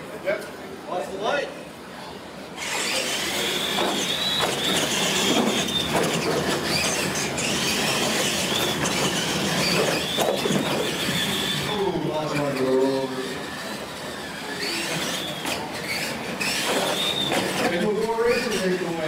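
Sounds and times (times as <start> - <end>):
electric toy trucks whining: 2.6 - 19.0.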